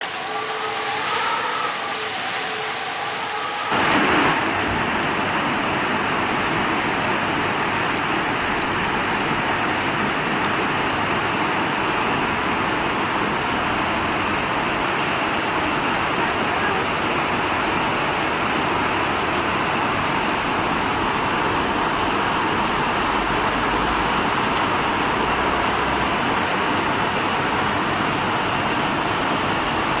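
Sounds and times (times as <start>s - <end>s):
heavy torrential rain: 0.0s - 30.0s.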